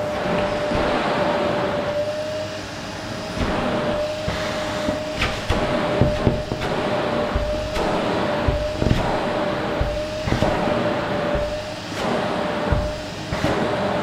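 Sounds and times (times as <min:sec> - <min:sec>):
vacuum cleaner running: 0:00.0 - 0:14.0
knocks and bumps: 0:00.2 - 0:01.3, 0:03.4 - 0:13.7.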